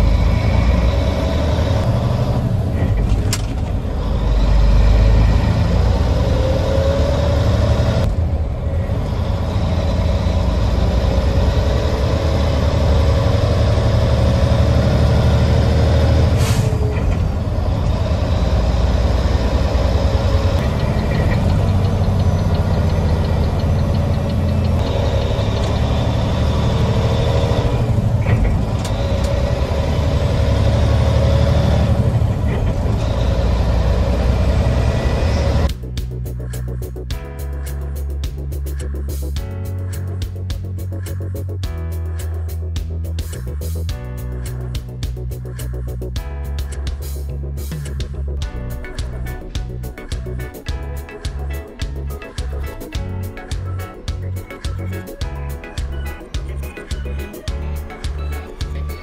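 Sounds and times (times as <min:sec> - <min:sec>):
diesel truck engine running: 0:00.0 - 0:41.8, 0:44.8 - 0:59.0
road noise: 0:00.0 - 0:59.0.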